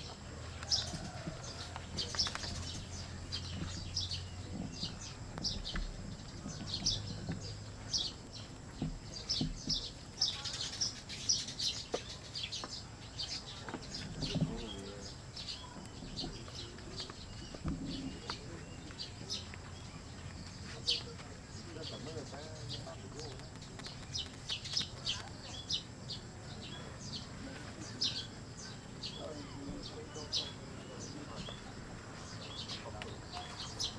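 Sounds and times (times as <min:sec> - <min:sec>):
outdoor background noise: 0:00.0 - 0:33.9.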